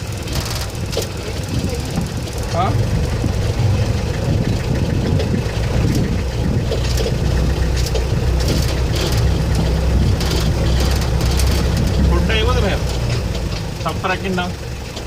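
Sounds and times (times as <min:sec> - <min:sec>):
jeep engine idling: 0:00.0 - 0:15.0.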